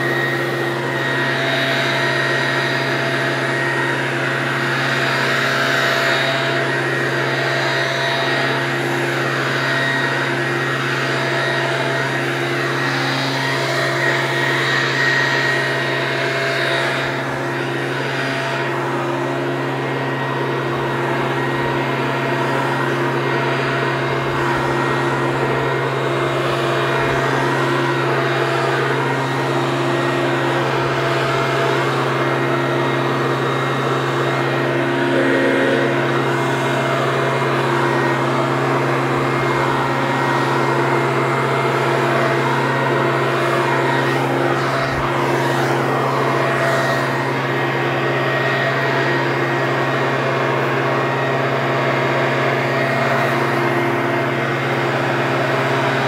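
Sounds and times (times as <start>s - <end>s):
leaf blower running: 0.0s - 56.0s.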